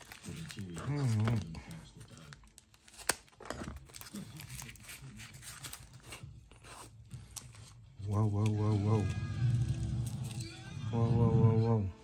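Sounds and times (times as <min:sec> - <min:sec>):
wrapping rustling and crinkling: 0:00.0 - 0:10.5.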